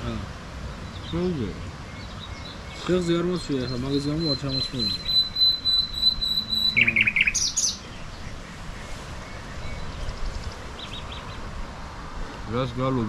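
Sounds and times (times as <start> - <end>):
birds chirping: 0.0 - 13.0
low outdoor hiss: 0.0 - 13.0.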